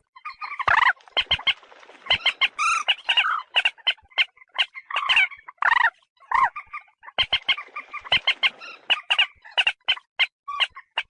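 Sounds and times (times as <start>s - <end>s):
moorhen calling: 0.2s - 11.0s.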